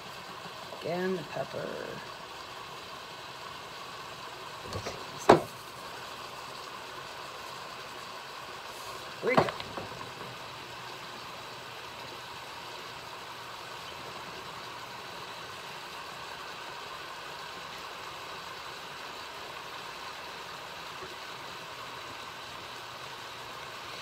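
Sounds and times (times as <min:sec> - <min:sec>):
chicken sizzling in pan: 0:00.0 - 0:24.0.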